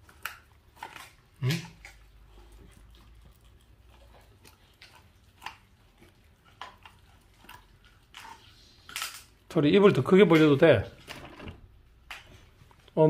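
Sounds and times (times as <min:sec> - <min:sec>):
dog chewing meat on bone: 0:00.0 - 0:11.2.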